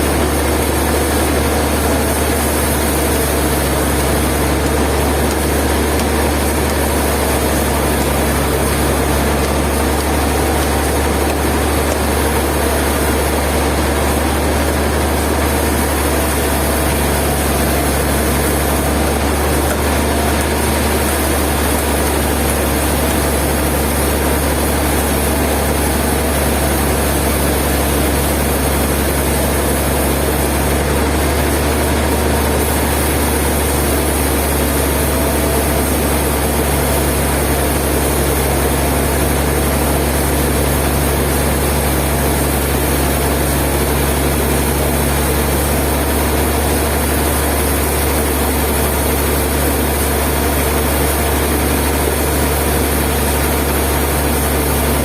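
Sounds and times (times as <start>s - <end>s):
sawmill engine drone: 0.0s - 55.0s.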